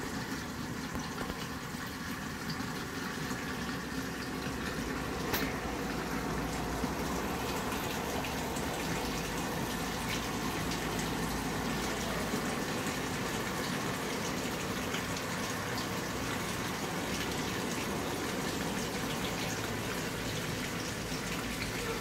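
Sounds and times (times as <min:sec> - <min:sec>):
water running from a tap: 0:00.0 - 0:22.0.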